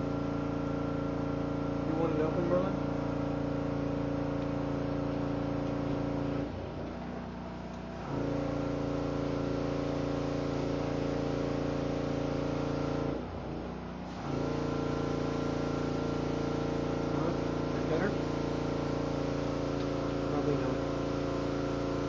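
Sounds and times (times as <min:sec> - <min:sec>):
generator engine hum: 0:00.0 - 0:22.0.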